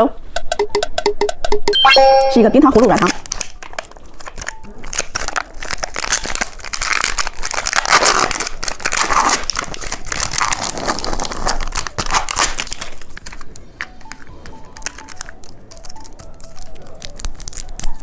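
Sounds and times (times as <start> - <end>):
plastic wrapper crinkling: 2.7 - 18.0.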